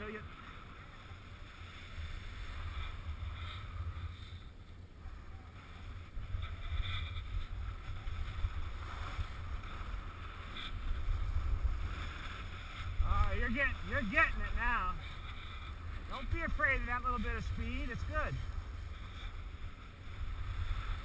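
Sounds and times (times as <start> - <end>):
skis sliding on snow: 0.0 - 21.0
wind rumbling on microphone: 0.0 - 21.0.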